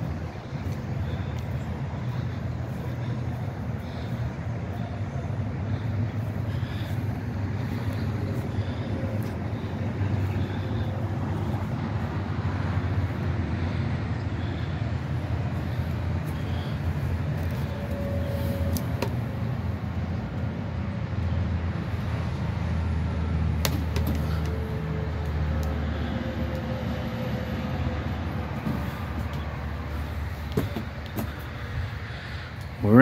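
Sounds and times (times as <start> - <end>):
low rumble of road traffic: 0.0 - 33.0.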